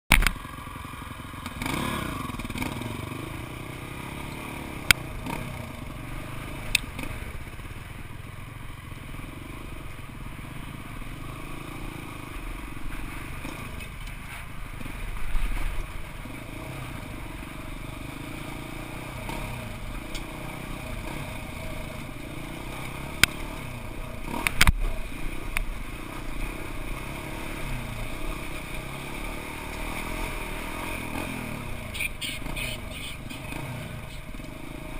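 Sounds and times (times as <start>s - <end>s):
off-road vehicle engine: 0.1s - 34.9s.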